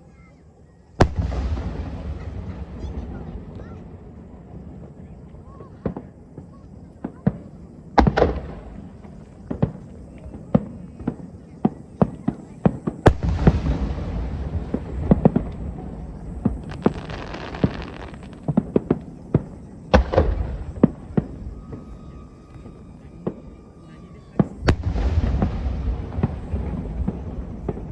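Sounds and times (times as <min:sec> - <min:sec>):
crackling hiss: 0:01.0 - 0:27.9
fireworks bangs: 0:01.0 - 0:27.9
heavy fireworks booms: 0:01.0 - 0:27.9.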